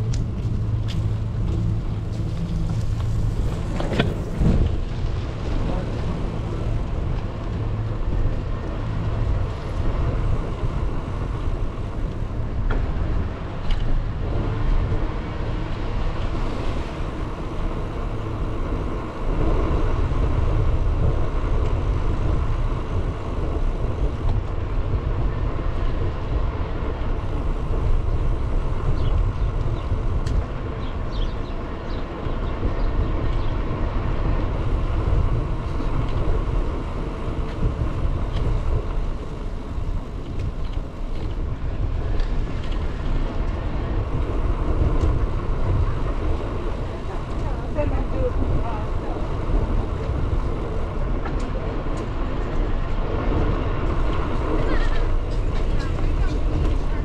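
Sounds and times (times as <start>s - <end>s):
bicycle wheels rolling: 0.0s - 57.0s
wind buffeting microphone: 0.0s - 57.0s.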